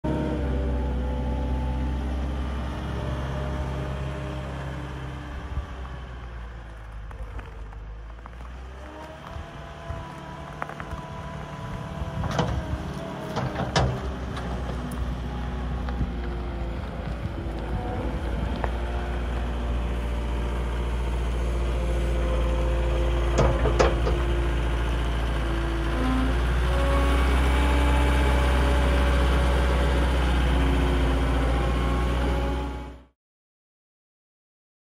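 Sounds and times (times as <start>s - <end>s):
wheel loader diesel engine: 0.0s - 33.1s.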